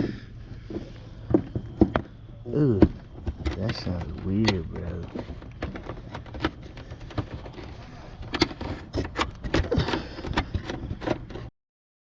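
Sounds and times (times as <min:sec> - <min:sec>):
irregular clicks and knocks: 0:00.0 - 0:02.2, 0:02.8 - 0:11.5.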